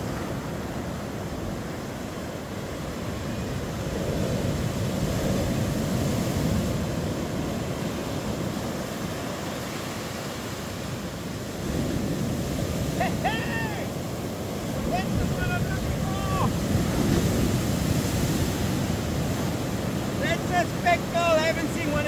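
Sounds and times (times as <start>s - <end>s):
ocean surf breaking over rocks: 0.0s - 22.0s.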